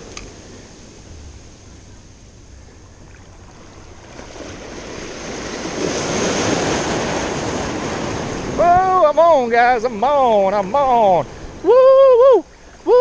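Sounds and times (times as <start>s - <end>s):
small waves breaking: 0.0s - 13.0s.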